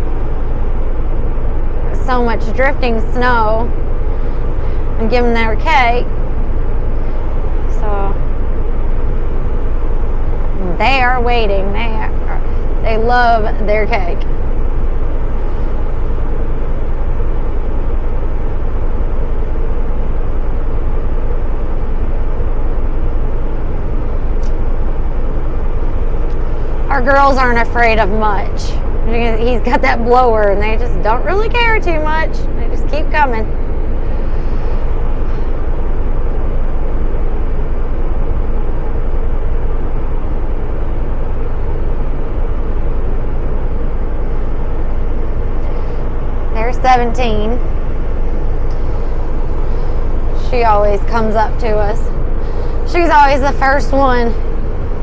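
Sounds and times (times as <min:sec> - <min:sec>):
engine-driven blower running: 0:00.0 - 0:55.0.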